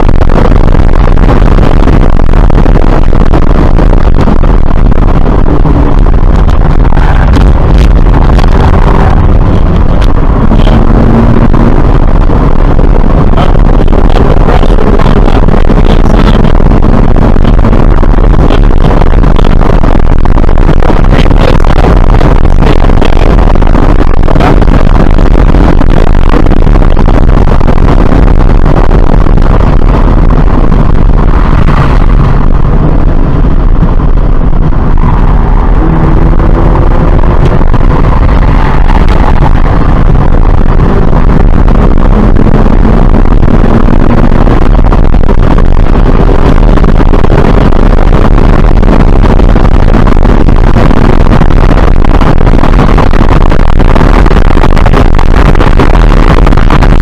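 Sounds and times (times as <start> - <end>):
car engine accelerating: 0.0 - 53.1
wind and tyre roar: 0.0 - 57.0.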